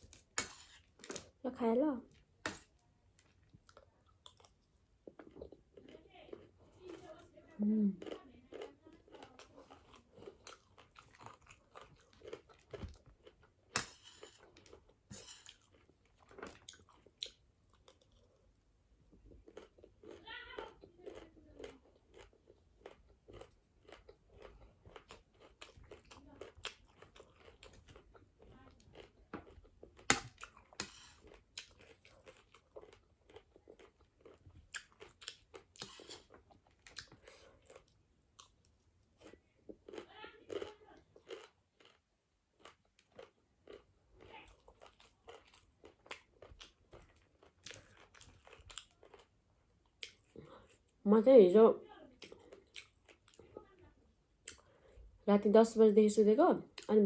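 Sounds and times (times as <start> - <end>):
chewing crunchy snack: 0.0 - 1.4, 2.1 - 7.3, 8.0 - 51.0, 52.1 - 53.7, 54.4 - 55.2.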